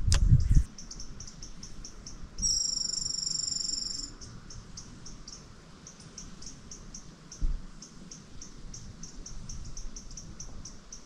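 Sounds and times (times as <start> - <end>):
insect short high chirps: 0.4 - 11.0
insect steady high trill: 0.4 - 11.0.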